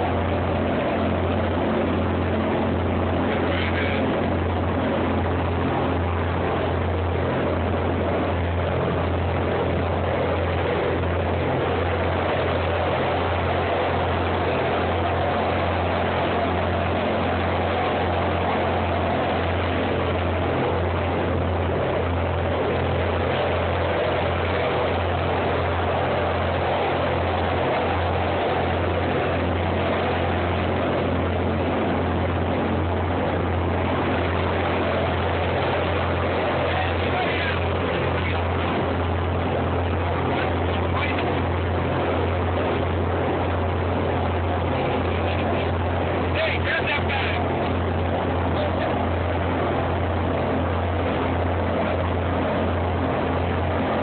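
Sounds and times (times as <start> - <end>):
boat engine droning: 0.0 - 54.0
wake rushing: 0.0 - 54.0
wind: 0.0 - 54.0.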